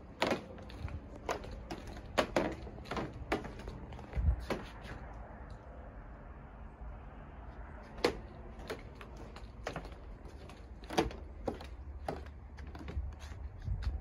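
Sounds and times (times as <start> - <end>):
footsteps on wooden boardwalk: 0.0 - 5.1, 7.9 - 14.0.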